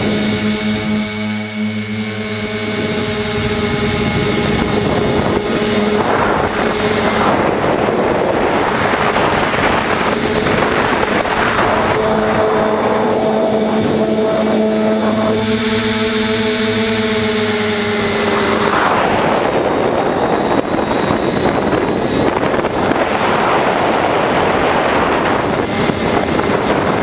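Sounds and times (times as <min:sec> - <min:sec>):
drone motors whirring: 0:00.0 - 0:27.0
wind rush: 0:00.0 - 0:27.0.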